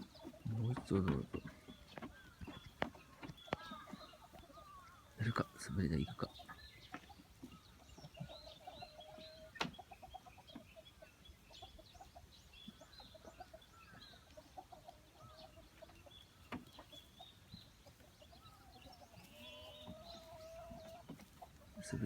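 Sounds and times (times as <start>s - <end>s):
chickens clucking: 0.0s - 22.0s
small birds chirping: 0.0s - 22.0s.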